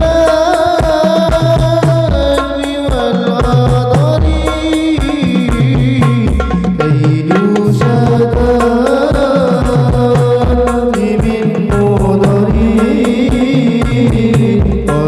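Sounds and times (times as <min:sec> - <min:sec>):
hand drums beat: 0:00.0 - 0:15.0.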